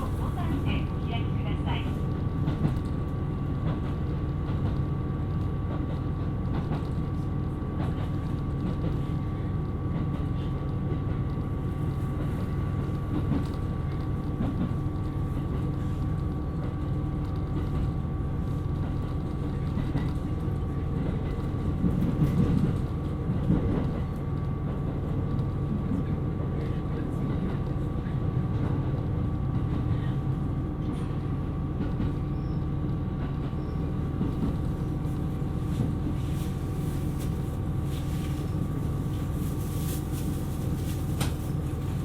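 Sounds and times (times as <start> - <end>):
railcar engine and wheels rumbling: 0.0 - 42.0.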